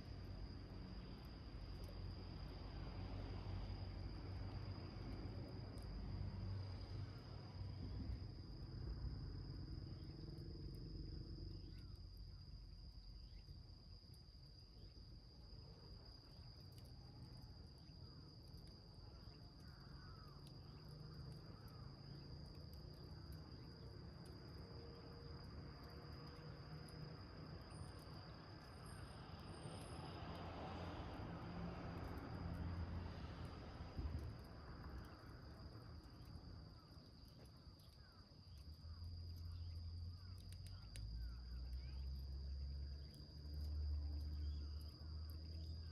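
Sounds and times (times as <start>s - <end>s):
cricket trilling: 0.0s - 45.9s.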